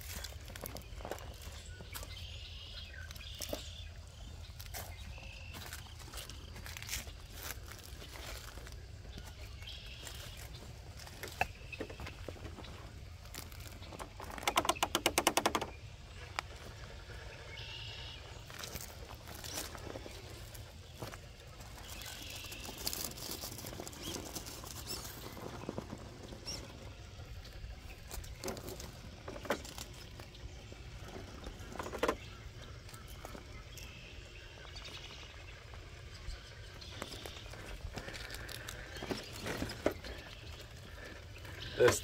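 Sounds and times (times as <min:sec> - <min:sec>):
toy car tyres crunching over gravel: 0:00.0 - 0:42.0.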